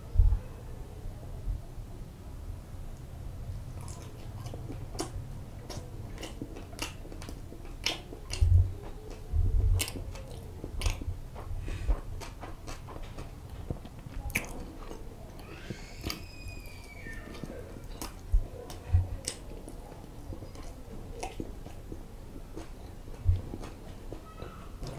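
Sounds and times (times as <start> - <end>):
chewing and crunching: 3.5 - 24.9.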